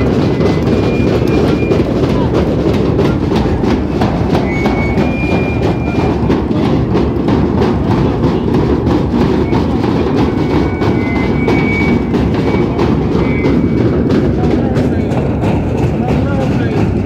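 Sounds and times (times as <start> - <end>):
drums beaten fast: 0.0 - 17.0.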